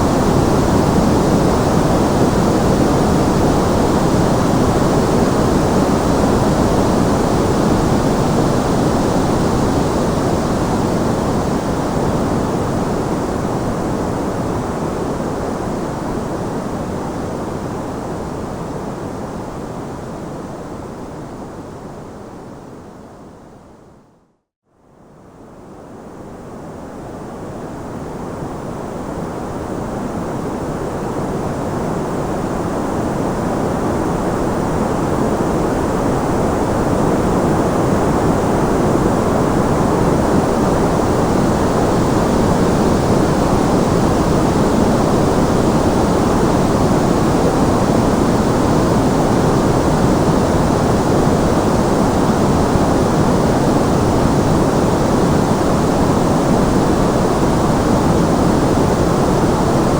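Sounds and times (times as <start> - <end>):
white noise hiss: 0.0 - 24.2, 24.9 - 59.9.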